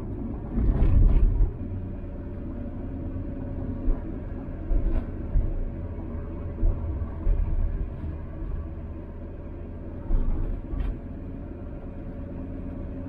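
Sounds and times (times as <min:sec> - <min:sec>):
diesel engine running: 0:00.0 - 0:13.0
road rumble: 0:00.0 - 0:13.0.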